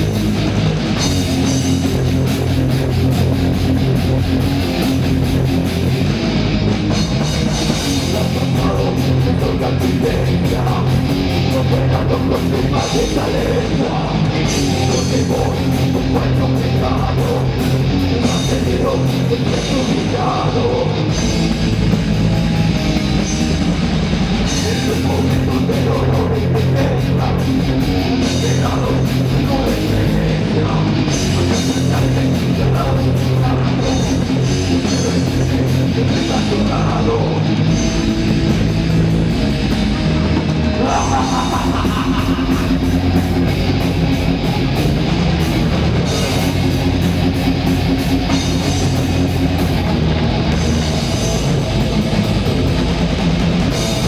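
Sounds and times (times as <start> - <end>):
bass guitar: 0.0 - 54.0
distorted electric guitars: 0.0 - 54.0
drum kit: 0.0 - 54.0.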